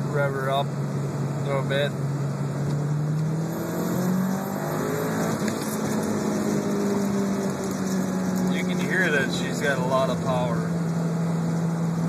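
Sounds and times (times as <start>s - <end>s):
car engine revving: 0.6s - 12.0s.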